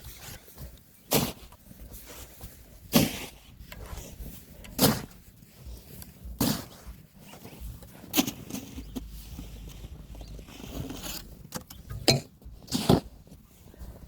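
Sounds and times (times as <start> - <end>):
shovel strokes into snow: 0.0 - 11.5, 12.6 - 14.0.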